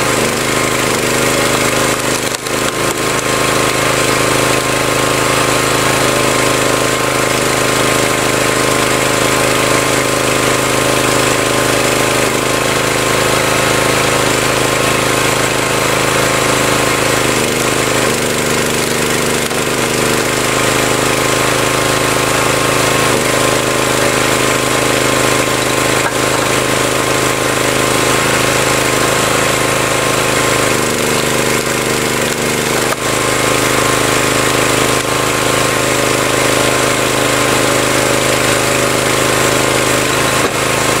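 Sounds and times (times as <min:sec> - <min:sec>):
log splitter engine running: 0:00.0 - 0:41.0.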